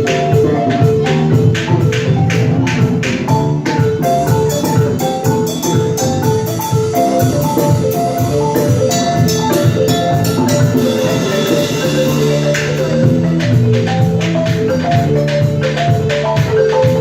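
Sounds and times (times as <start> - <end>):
balafon runs: 0.0 - 17.0.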